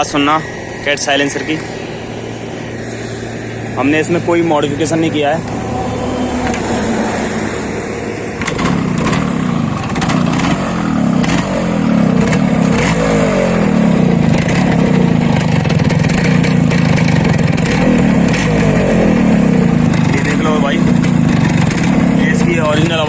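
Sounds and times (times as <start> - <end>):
two-stroke engine revving: 0.0 - 23.0.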